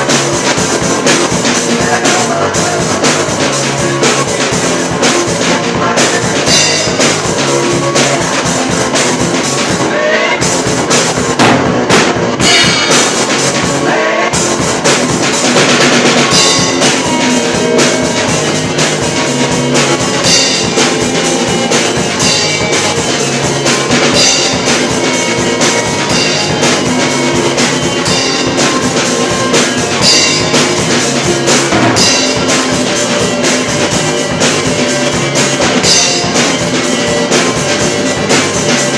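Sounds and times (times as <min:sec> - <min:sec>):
drum kit playing steady beat: 0:00.0 - 0:38.9
guitar: 0:00.0 - 0:38.9.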